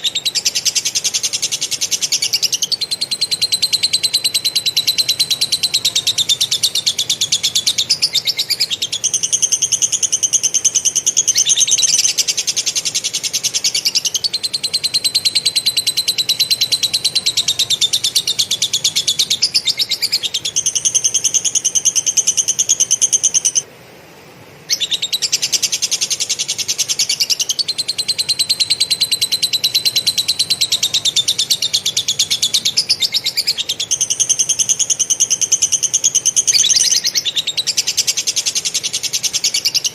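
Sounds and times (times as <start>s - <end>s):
songbird fast chattering song: 0.0s - 23.7s, 24.6s - 39.9s.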